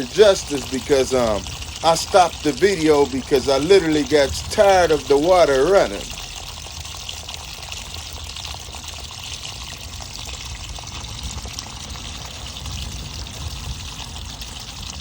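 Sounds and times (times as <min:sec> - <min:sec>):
water pouring from washing machine: 0:00.0 - 0:15.0.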